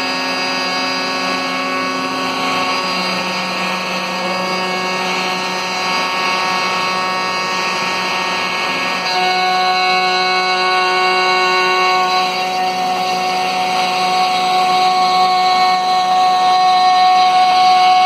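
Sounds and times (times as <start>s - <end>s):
router bit cutting plywood: 0.0s - 18.0s.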